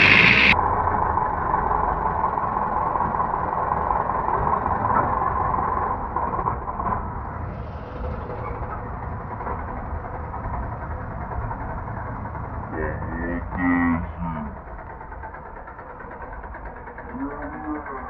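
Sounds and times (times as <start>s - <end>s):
diesel tractor engines running: 0.0s - 18.0s.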